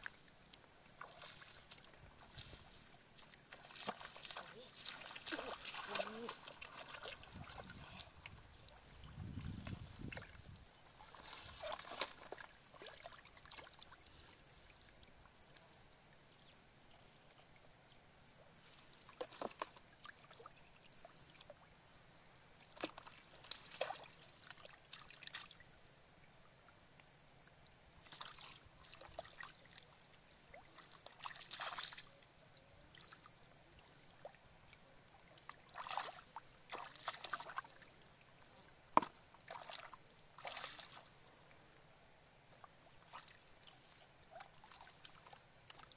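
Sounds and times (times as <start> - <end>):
water splashing and sloshing: 0.0 - 15.7, 18.5 - 21.6, 22.6 - 26.0, 28.0 - 32.2, 32.9 - 41.8, 42.5 - 45.9.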